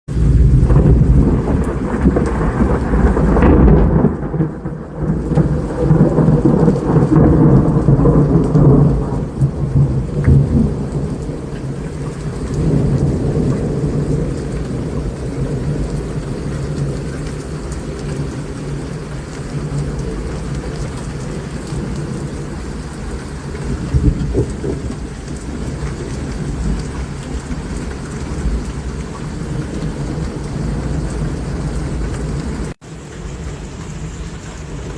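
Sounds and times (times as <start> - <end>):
low rolling thunder: 0.1 - 34.9
rain falling steadily: 0.1 - 34.9.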